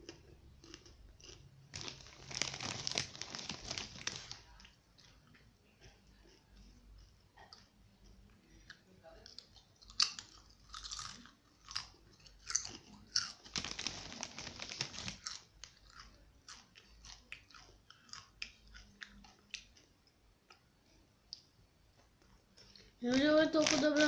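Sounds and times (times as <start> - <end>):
child chewing crunchy chips: 0.0 - 21.4, 22.2 - 24.0.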